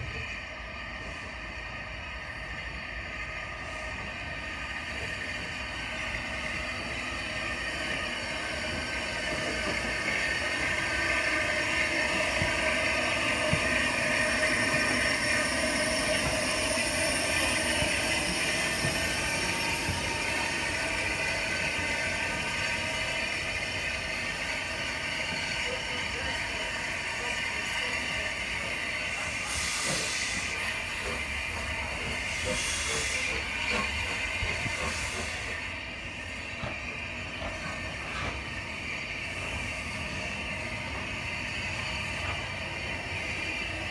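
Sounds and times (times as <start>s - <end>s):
steam locomotive moving slowly: 0.0s - 43.9s.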